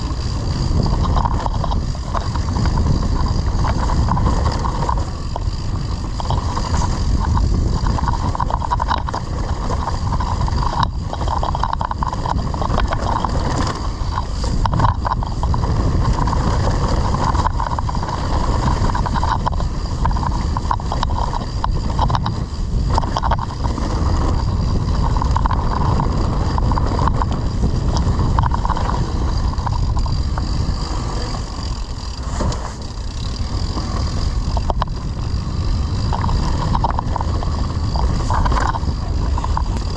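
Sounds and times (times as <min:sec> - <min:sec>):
bike rattling: 0:00.0 - 0:39.9
tyres on dirt: 0:00.0 - 0:39.9
wind buffeting microphone: 0:00.0 - 0:39.9.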